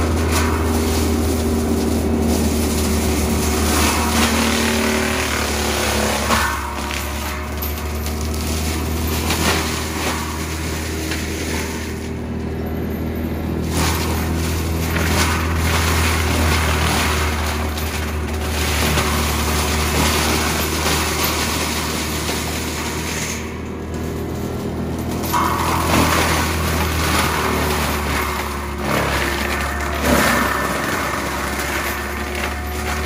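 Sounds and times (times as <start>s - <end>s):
brush crackling being shredded: 0.0s - 12.6s, 13.5s - 33.0s
loader diesel engine drone: 0.0s - 33.0s.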